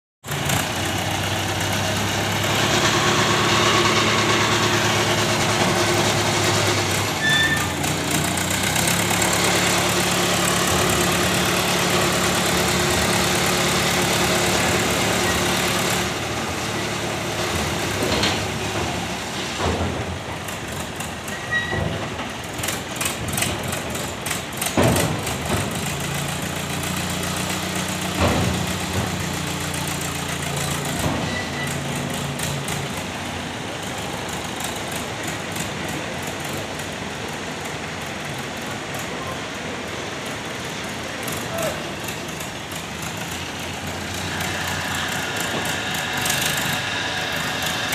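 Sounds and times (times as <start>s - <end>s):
crane diesel engine under load: 0.2s - 47.9s.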